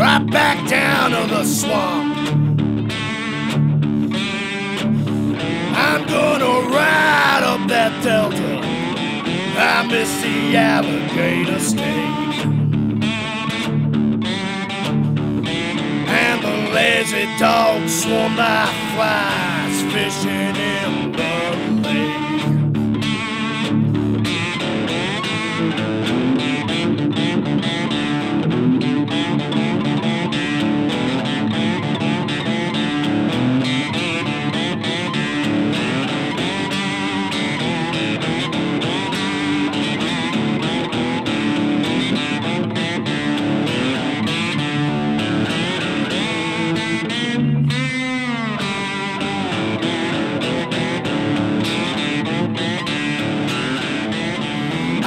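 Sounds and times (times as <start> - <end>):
plucked guitar riff: 0.0 - 55.0.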